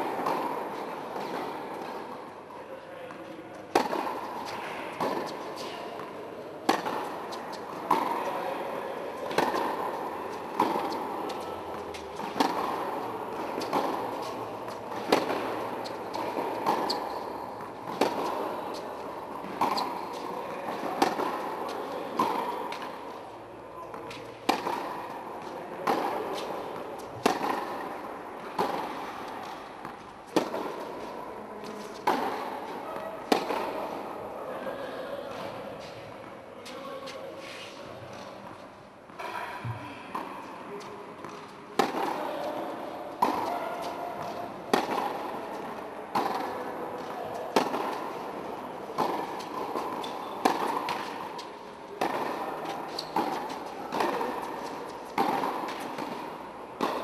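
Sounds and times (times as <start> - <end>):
tennis balls struck with rackets: 0.0 - 2.3, 3.0 - 34.4, 37.5 - 57.0.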